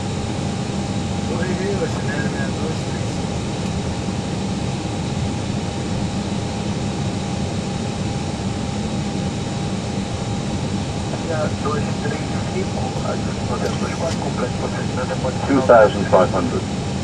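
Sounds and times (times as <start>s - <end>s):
airliner engines and rushing air: 0.0s - 17.0s.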